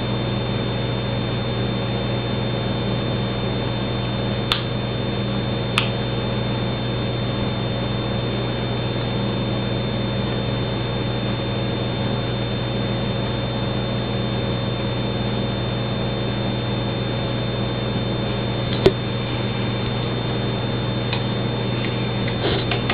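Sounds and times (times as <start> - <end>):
electrical hum and hiss: 0.0 - 22.9.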